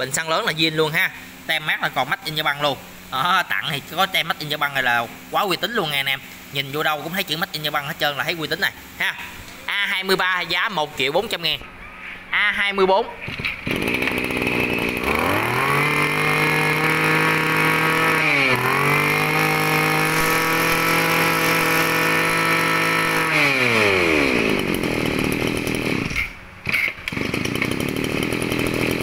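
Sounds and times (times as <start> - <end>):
brush cutter engine revving: 0.0 - 11.4, 13.2 - 29.0.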